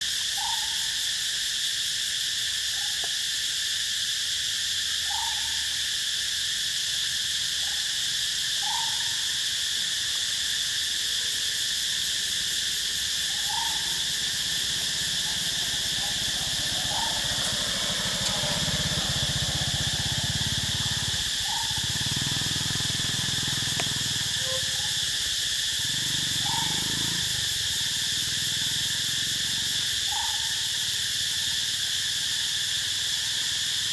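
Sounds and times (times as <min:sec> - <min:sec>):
high insect drone: 0:00.0 - 0:33.9.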